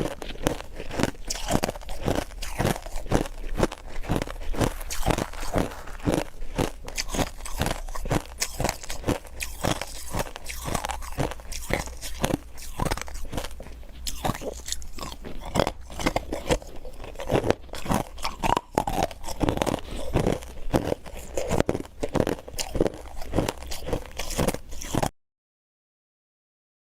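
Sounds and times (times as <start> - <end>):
chewing crunchy ice: 0.0 - 25.1.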